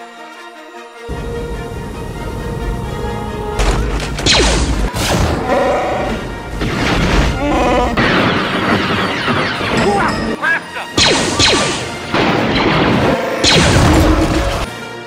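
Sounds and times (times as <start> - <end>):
orchestral film music: 0.0 - 15.0.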